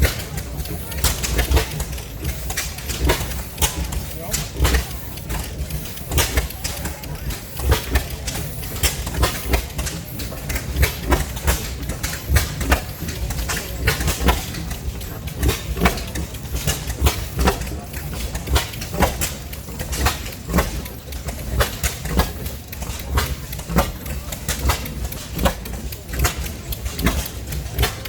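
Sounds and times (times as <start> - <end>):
low engine rumble: 0.0 - 28.0
old engines popping and knocking: 0.0 - 28.0.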